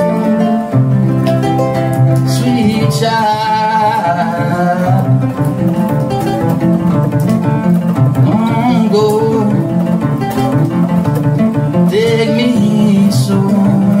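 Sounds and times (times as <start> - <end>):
acoustic guitar: 0.0 - 14.0
kora: 0.0 - 14.0.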